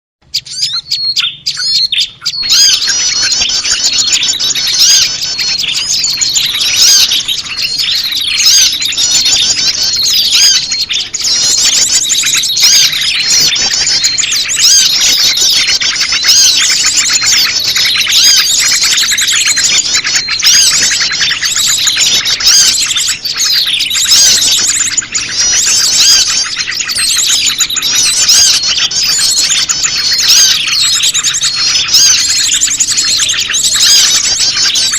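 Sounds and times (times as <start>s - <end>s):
small songbirds chirping: 0.2s - 34.9s.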